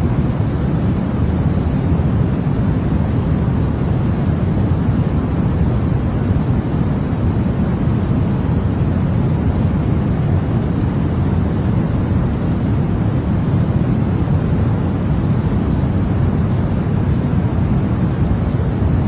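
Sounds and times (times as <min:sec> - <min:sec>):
deep white noise: 0:00.0 - 0:19.0.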